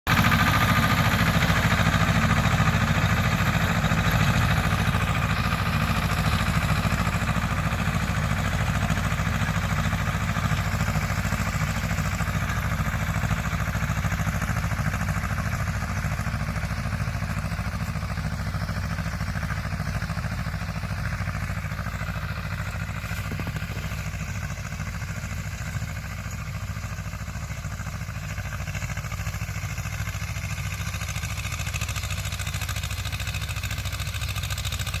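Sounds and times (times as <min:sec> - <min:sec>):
tractor diesel engine running: 0:00.1 - 0:35.0.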